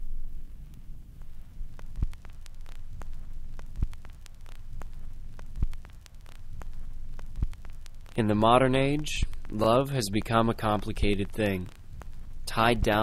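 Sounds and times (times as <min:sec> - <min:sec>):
faint crackling clicks: 0:00.0 - 0:13.0
steady low hum: 0:00.0 - 0:13.0.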